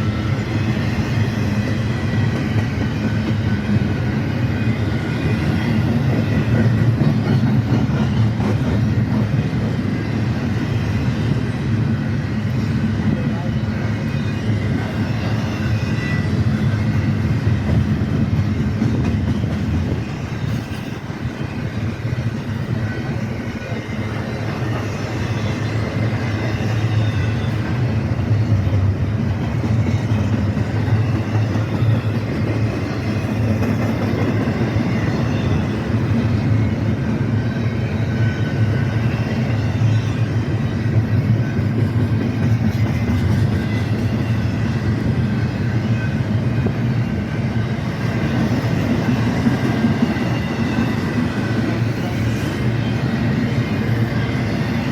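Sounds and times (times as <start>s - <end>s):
freight train wheels on track: 0.0s - 54.9s.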